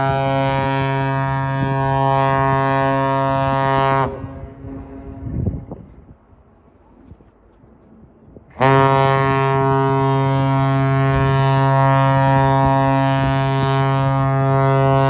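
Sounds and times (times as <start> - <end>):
deep ship's horn blast: 0.0 - 5.7, 8.5 - 15.0.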